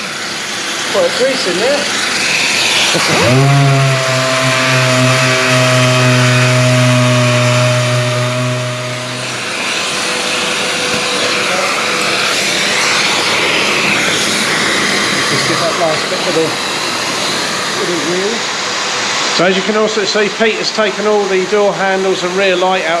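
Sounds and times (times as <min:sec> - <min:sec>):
orbital sander whine: 0:00.0 - 0:19.8
dust extractor air rush: 0:00.0 - 0:21.4.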